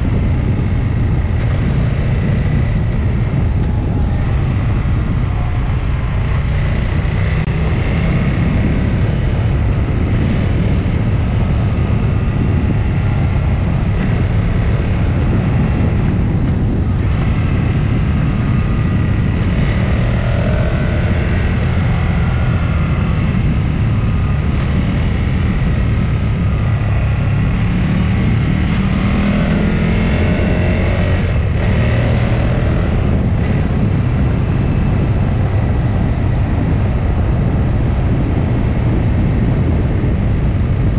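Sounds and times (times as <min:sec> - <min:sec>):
vehicle engine and road rumble: 0:00.0 - 0:40.9.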